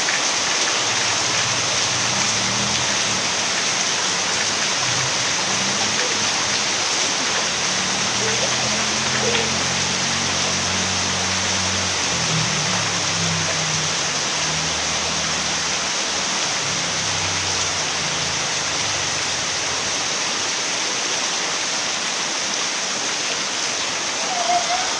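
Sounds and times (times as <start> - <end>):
steady rain hiss: 0.0 - 24.9.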